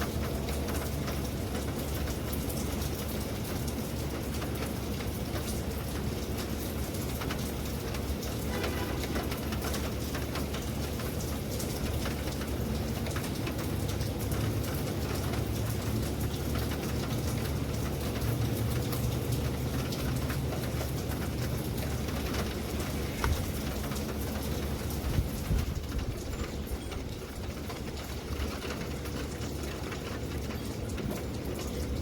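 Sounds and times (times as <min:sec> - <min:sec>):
raindrops tapping: 0:00.0 - 0:32.0.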